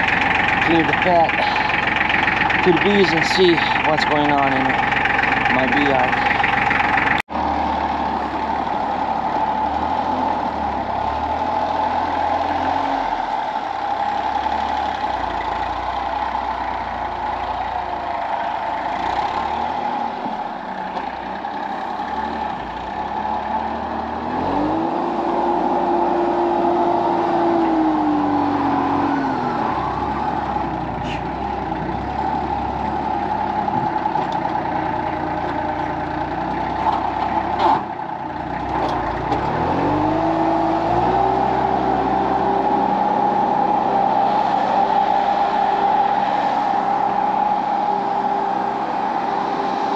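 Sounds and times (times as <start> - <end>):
tractor engine under load: 0.0 - 49.9.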